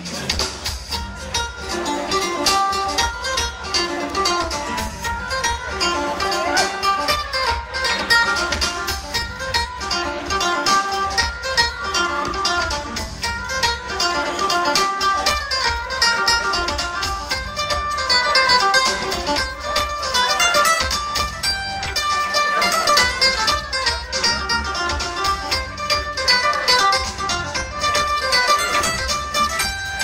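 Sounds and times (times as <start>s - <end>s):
electric bass: 0.0s - 22.3s, 22.9s - 30.0s
drum kit: 0.0s - 30.0s
guitar: 0.0s - 30.0s
mandolin: 0.0s - 30.0s.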